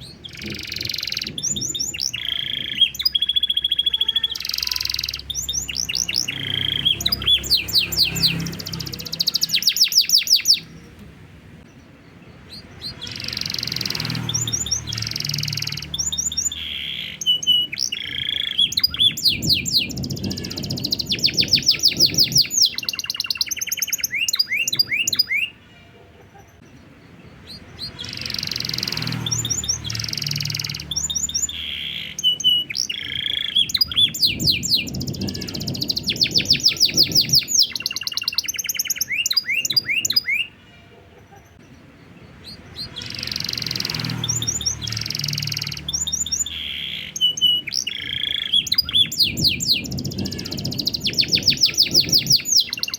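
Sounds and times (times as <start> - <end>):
canary singing trills and chirps: 0.0 - 52.9.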